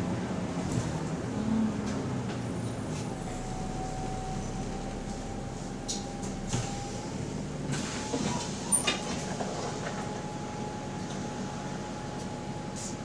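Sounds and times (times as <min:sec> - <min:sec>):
bus cabin rumble: 0:00.0 - 0:13.0
bus drivetrain whine: 0:00.0 - 0:13.0.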